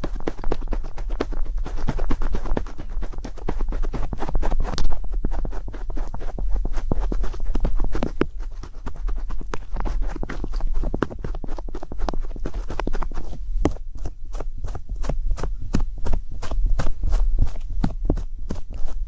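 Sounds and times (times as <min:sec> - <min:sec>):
low steady hum: 0:00.0 - 0:19.0
rapid tapping and clicking: 0:00.0 - 0:19.0.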